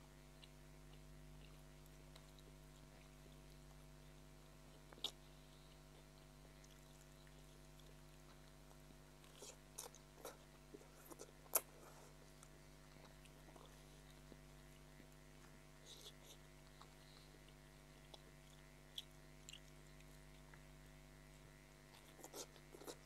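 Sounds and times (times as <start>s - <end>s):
faint steady hum: 0.0s - 23.0s
person chewing noodles: 0.3s - 23.0s.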